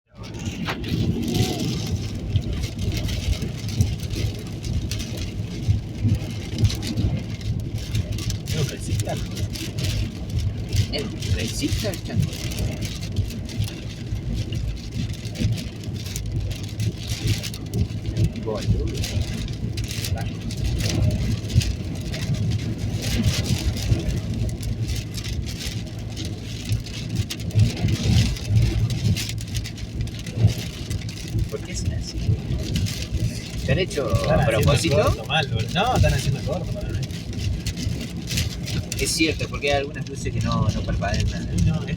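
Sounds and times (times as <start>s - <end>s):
road and engine rumble: 0.0s - 41.9s
wind and rain on car: 0.1s - 41.9s.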